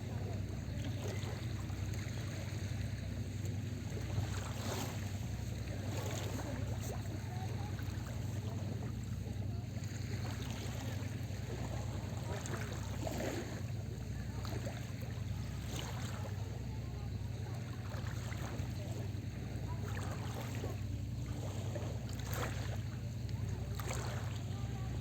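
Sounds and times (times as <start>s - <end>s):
small waves lapping at shore: 0.0s - 25.0s
steady low hum: 0.0s - 25.0s.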